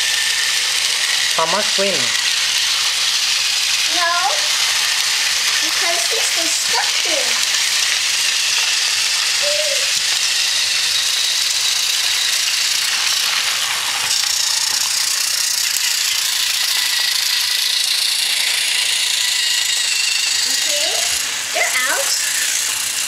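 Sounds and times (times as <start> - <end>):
toy trains whirring on plastic track: 0.0 - 23.0.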